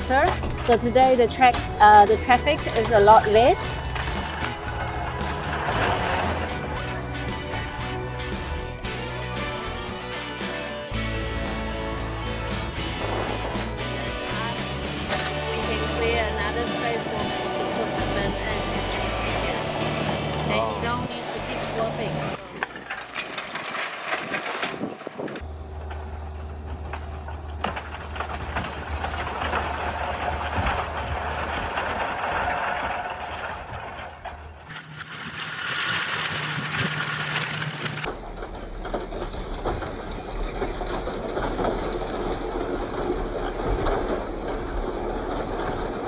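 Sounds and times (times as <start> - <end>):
excavator engine running: 0.0 - 38.3.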